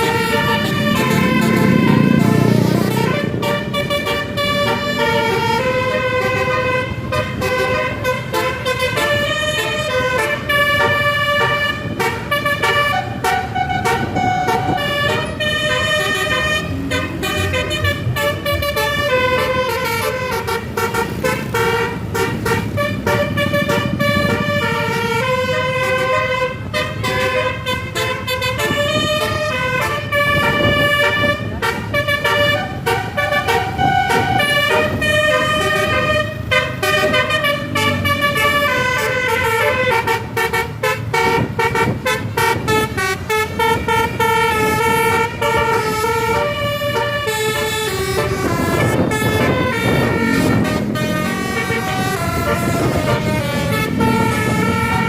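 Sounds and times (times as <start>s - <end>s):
bus horn playing a melody: 0.0s - 55.0s
engine and road rumble: 0.0s - 55.0s.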